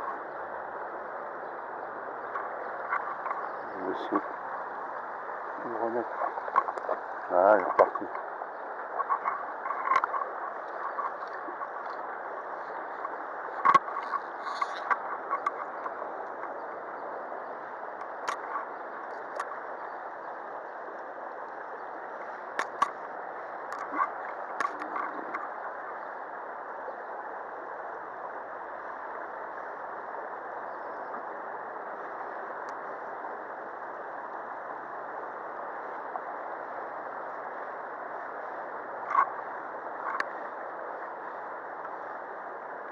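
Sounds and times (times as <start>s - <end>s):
stream water flowing: 0.0s - 42.9s.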